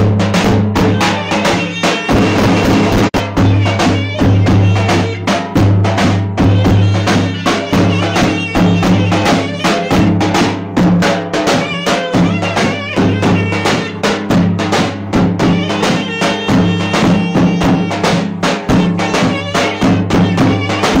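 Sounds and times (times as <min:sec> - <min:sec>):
fast drum beat: 0:00.0 - 0:21.0
reedy wind instrument melody: 0:00.0 - 0:21.0.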